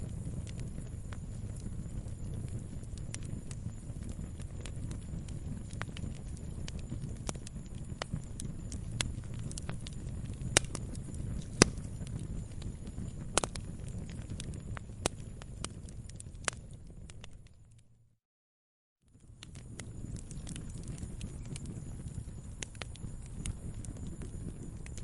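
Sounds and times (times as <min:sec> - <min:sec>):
log fire crackling and popping: 0:00.0 - 0:17.9, 0:19.1 - 0:25.0
low rumble of flames: 0:00.0 - 0:18.1, 0:19.0 - 0:25.0.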